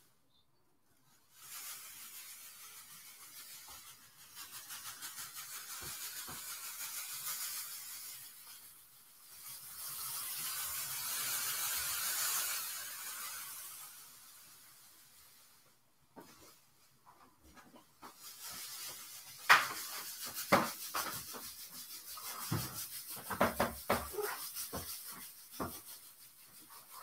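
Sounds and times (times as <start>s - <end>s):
foil tinsel pom-poms shaken: 1.0s - 27.0s.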